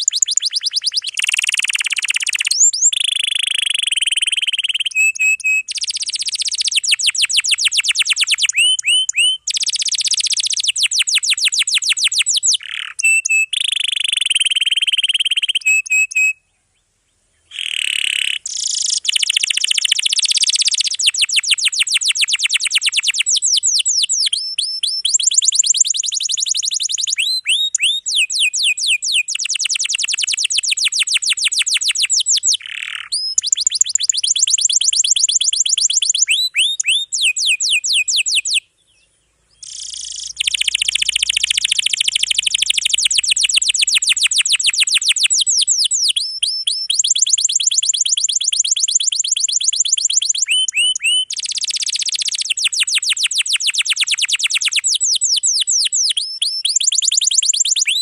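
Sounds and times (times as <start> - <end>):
canary singing trills: 0.0 - 16.5, 17.4 - 58.0.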